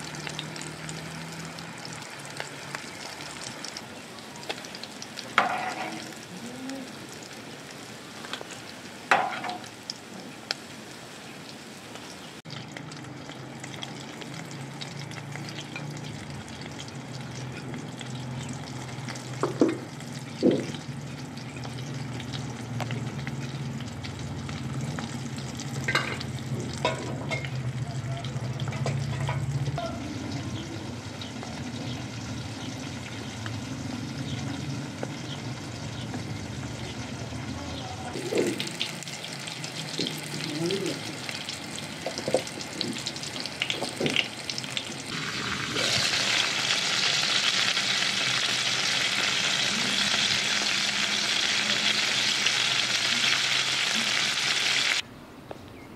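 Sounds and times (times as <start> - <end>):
fish sizzling in oil: 0.0 - 55.0.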